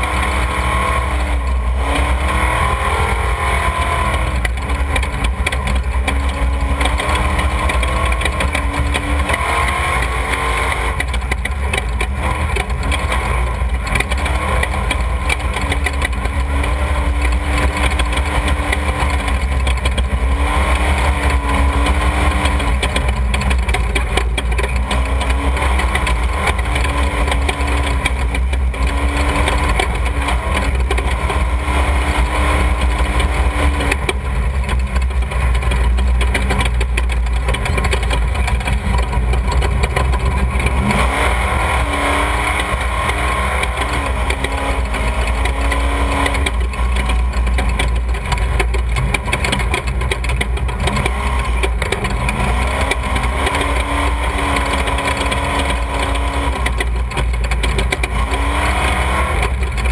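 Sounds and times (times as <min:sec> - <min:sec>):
vehicle engines idling: 0:00.0 - 0:59.9.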